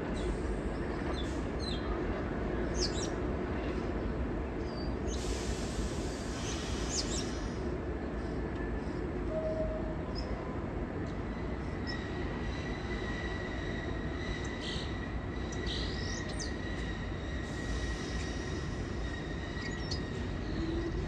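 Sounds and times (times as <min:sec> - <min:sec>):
subway train rumble and hum: 0:00.0 - 0:21.0.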